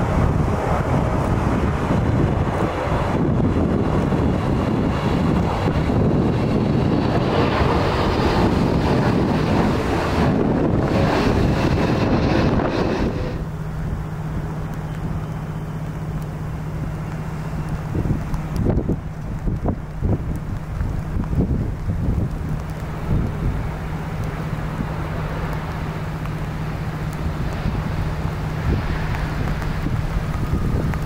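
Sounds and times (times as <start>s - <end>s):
jet engines rushing with high whine: 0.0s - 31.0s
low jet engine hum: 0.0s - 31.0s.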